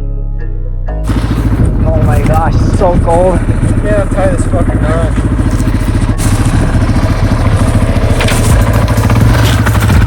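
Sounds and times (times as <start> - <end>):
engine idling: 1.0 - 10.0.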